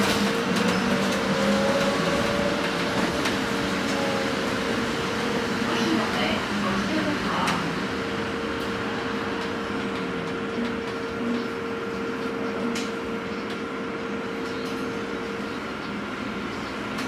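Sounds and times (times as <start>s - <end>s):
bus rolling rumble and hiss: 0.0s - 17.0s.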